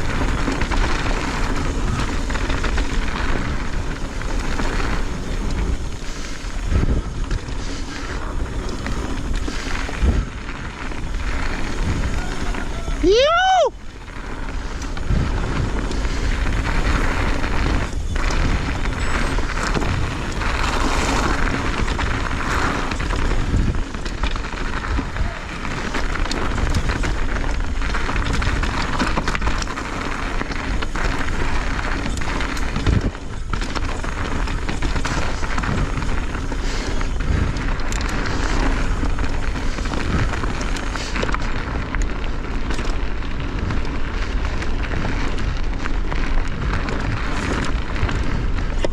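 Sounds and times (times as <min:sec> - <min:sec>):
bike knocking and rattling: 0:00.0 - 0:48.9
bike tyres rushing on dirt: 0:00.0 - 0:48.9
wind on microphone: 0:00.0 - 0:48.9.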